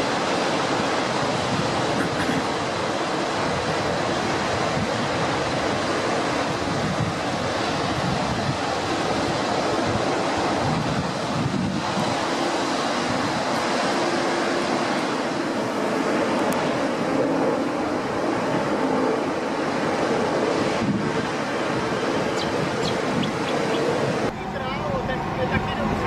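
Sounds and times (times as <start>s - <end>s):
aircraft roar in flight: 0.0s - 26.0s.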